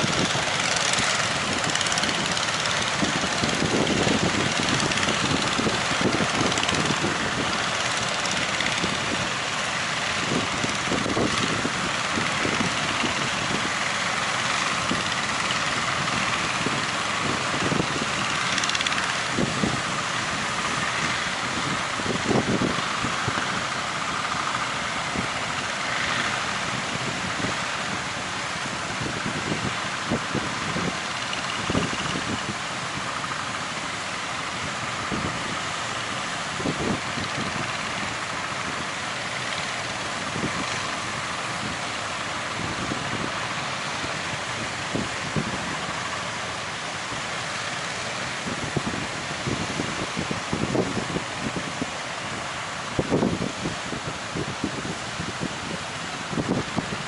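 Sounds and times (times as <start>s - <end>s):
steady rushing noise: 0.0s - 57.0s
wind buffeting microphone: 0.0s - 57.0s.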